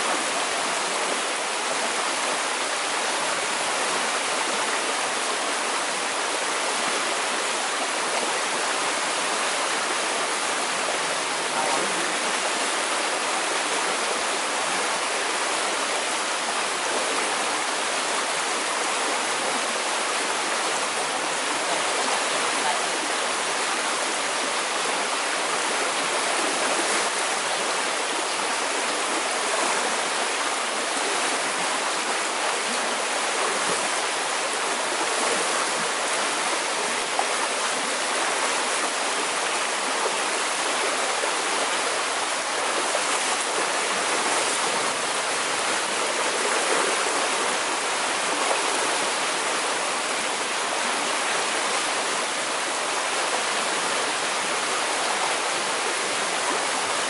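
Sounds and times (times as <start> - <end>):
river rushing through rapids: 0.0 - 57.0.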